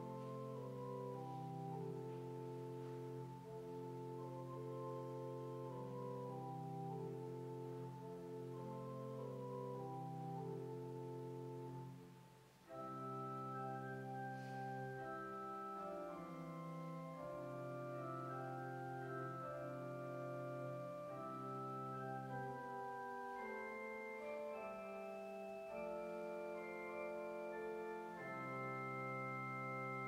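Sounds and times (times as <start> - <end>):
church organ playing chords: 0.0 - 30.0.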